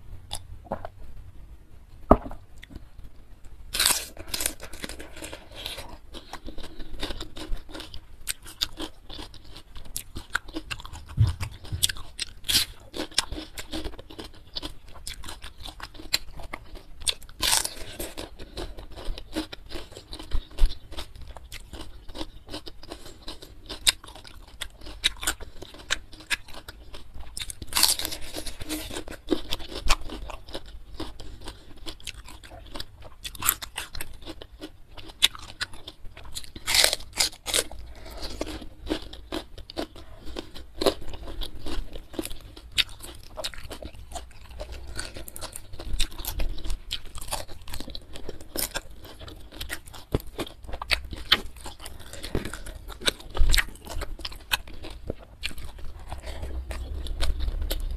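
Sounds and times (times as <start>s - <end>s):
chewing crunchy cucumber: 0.3s - 1.0s, 3.7s - 57.9s.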